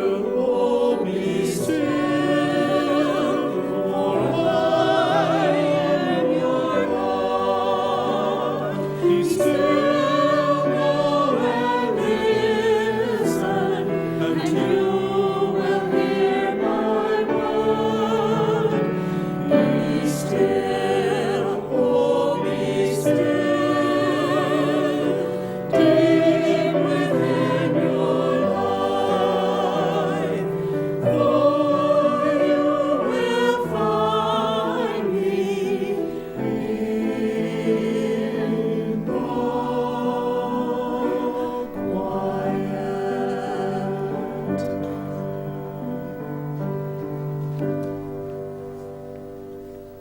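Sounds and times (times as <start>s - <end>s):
church choir singing: 0.0s - 50.0s.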